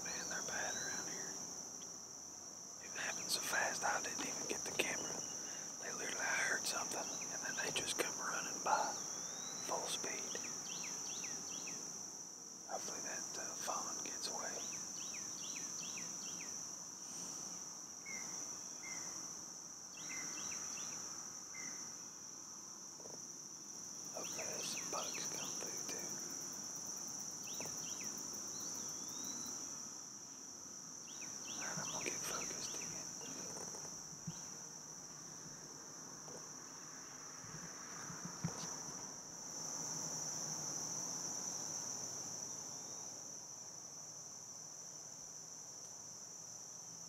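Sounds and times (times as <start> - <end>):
insects droning: 0.0 - 47.0.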